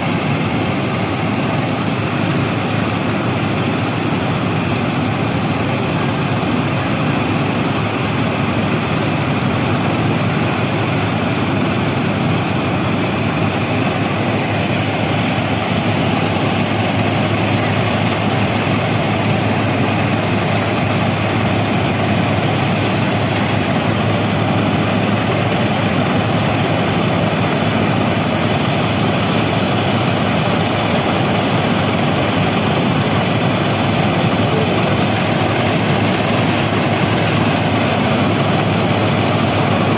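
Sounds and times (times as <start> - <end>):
heavy track machine running: 0.0 - 39.9.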